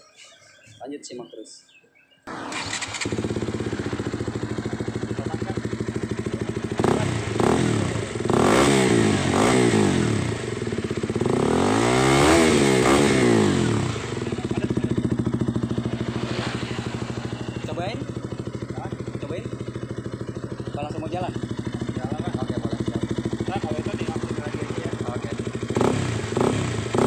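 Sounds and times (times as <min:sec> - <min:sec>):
motorcycle engine idling and revving: 0:02.3 - 0:27.0.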